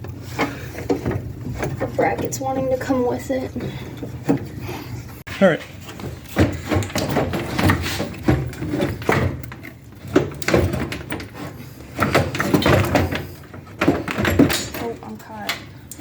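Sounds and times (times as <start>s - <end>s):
radiator clunking and scraping: 0.0s - 15.8s.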